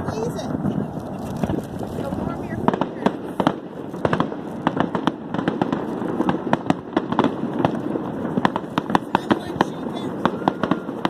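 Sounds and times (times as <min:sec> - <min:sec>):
continuous rumble: 0:00.0 - 0:11.0
fireworks bangs and crackling: 0:00.0 - 0:11.0.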